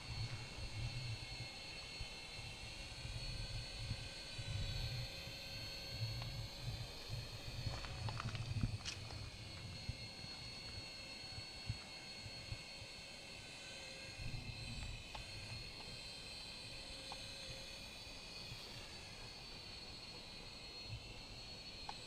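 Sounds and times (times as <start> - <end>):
toy helicopter motor whine: 0.0 - 22.0.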